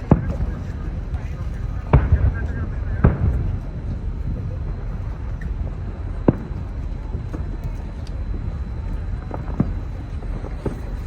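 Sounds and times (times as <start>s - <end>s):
crowd murmur: 0.0s - 11.0s
distant fireworks bangs: 0.0s - 11.0s
low rumble: 0.0s - 11.0s.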